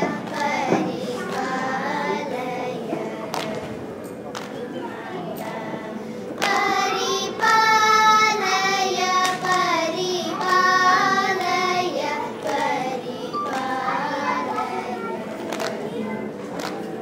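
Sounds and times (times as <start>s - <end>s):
children singing in unison: 0.0s - 3.9s, 4.6s - 16.6s.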